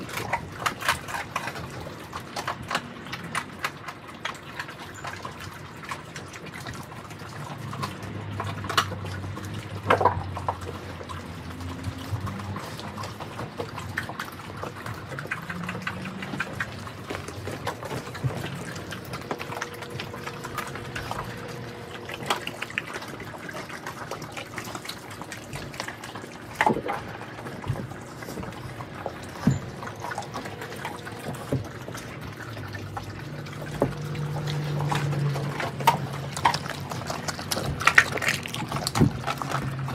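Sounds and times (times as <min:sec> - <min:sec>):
bone crunching: 0:00.0 - 0:39.9
dogs chewing and licking: 0:00.0 - 0:39.9.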